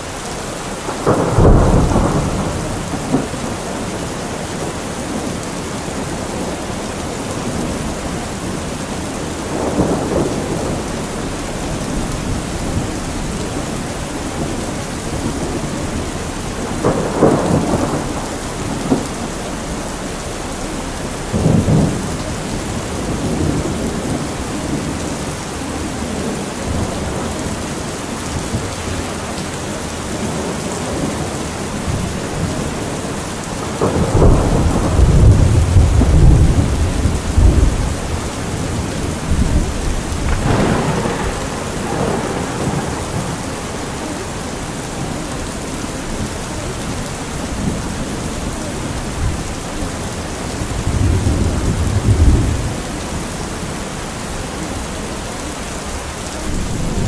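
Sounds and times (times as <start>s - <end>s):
steady rain: 0.0s - 57.0s
thunder rumbling: 0.0s - 57.0s.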